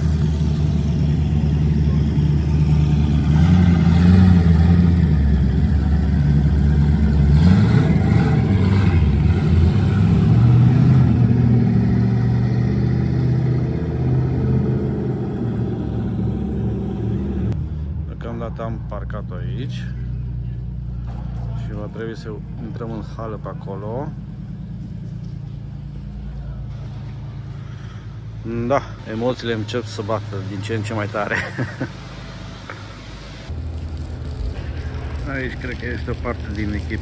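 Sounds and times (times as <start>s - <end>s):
car engine and road rumble: 0.0s - 37.0s.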